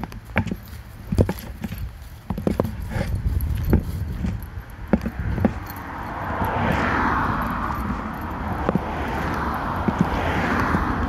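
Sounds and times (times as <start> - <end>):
vehicles passing by: 0.0 - 11.0.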